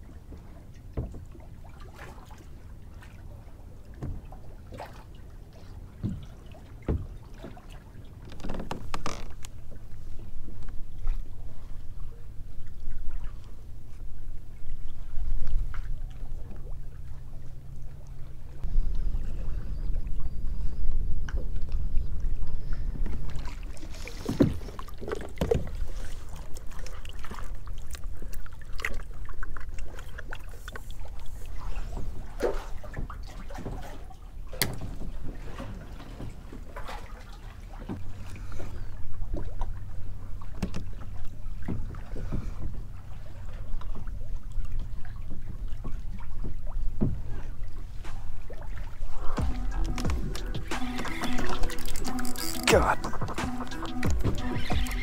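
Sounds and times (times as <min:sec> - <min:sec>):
water moving around kayak: 0:00.0 - 0:55.0.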